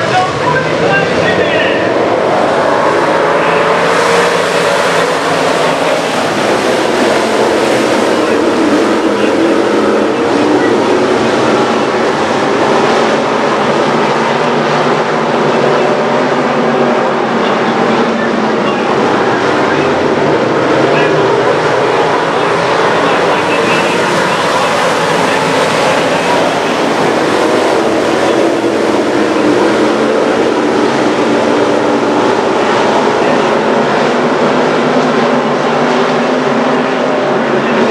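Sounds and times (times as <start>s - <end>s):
race car engines at speed: 0.0s - 37.9s.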